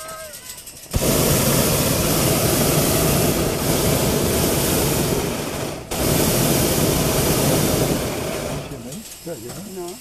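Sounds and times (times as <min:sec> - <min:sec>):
propane burner firing: 0:00.8 - 0:10.0.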